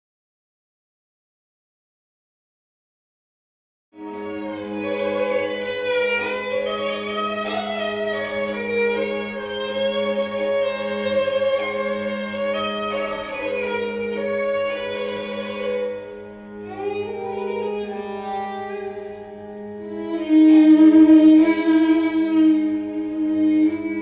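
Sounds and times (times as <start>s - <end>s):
bowed strings music: 4.0s - 24.0s.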